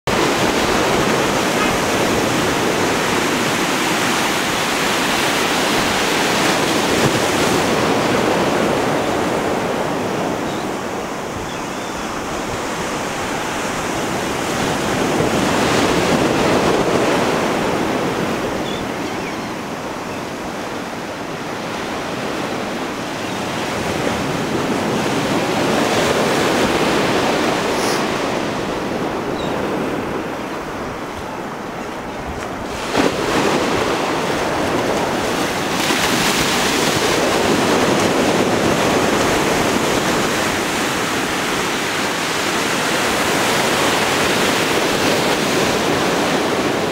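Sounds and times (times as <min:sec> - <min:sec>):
small ocean waves breaking: 0:00.1 - 0:46.9.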